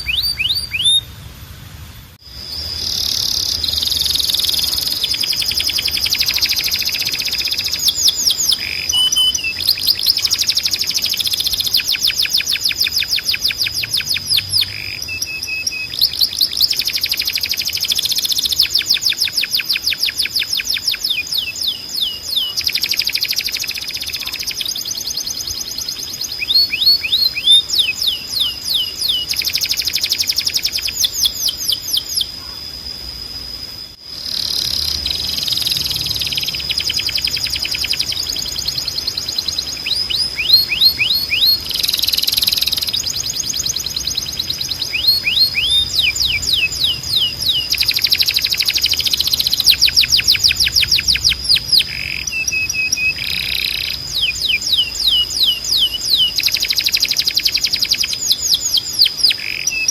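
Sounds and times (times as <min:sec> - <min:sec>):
canary singing trills: 0:00.0 - 0:01.3, 0:02.2 - 0:32.9, 0:33.8 - 0:59.9.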